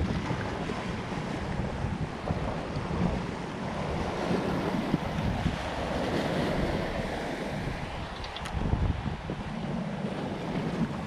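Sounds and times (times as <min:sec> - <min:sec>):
waves breaking over rocks: 0:00.0 - 0:11.0
wind buffeting microphone: 0:00.0 - 0:11.0.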